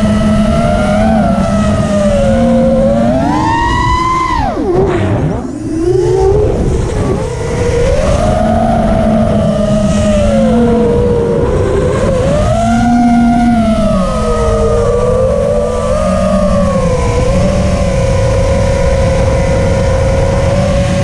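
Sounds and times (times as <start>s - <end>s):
quadcopter motors whining: 0.0s - 21.0s
wind rush: 0.0s - 21.0s.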